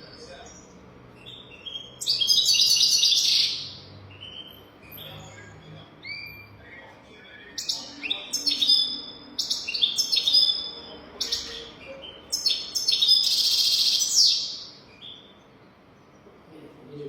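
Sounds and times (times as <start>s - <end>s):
finch twittering and trilling: 0.0s - 16.2s.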